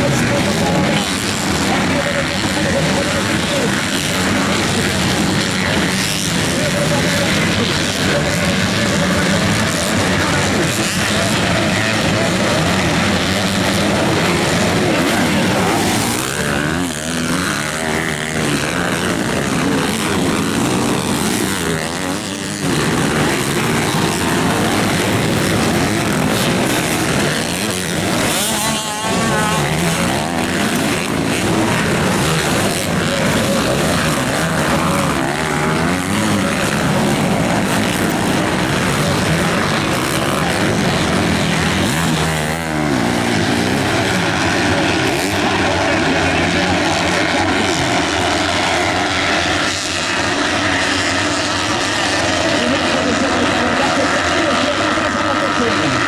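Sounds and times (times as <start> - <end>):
motocross bikes revving: 0.0 - 56.0.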